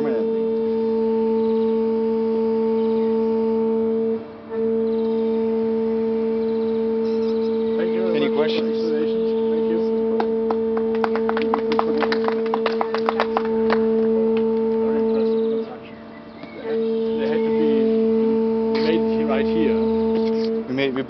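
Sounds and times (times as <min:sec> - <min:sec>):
hydraulic system hum: 0:00.0 - 0:21.0.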